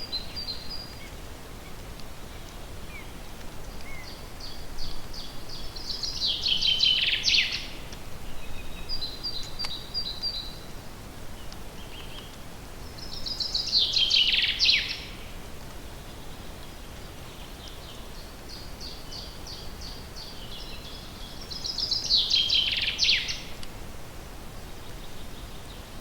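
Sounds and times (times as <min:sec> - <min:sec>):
songbird singing: 0:00.0 - 0:23.7, 0:24.4 - 0:26.0
background hiss: 0:00.0 - 0:26.0.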